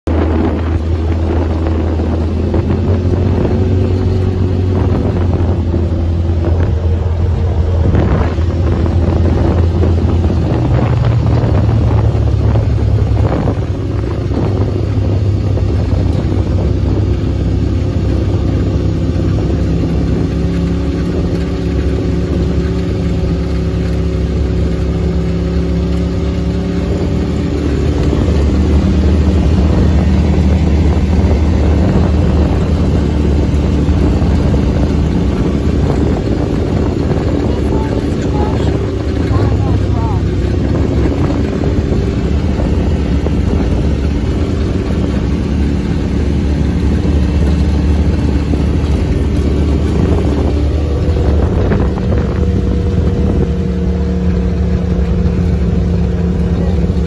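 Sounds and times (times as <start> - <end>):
utility vehicle engine running: 0.0 - 57.0
wind noise on microphone: 0.0 - 57.0.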